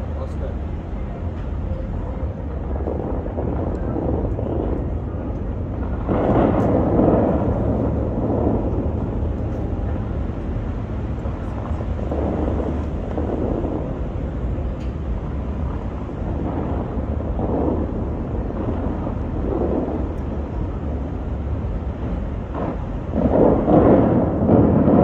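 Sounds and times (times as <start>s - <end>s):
distant city traffic: 0.0s - 25.0s
wind: 0.0s - 25.0s.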